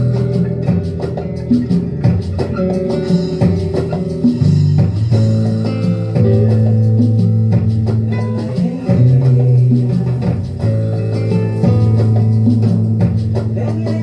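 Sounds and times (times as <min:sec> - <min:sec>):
music with guitar bass and beat: 0:00.0 - 0:14.0.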